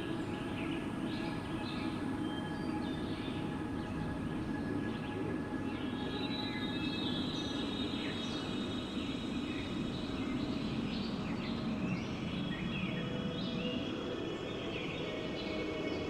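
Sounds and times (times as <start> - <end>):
steady wind: 0.0 - 16.0.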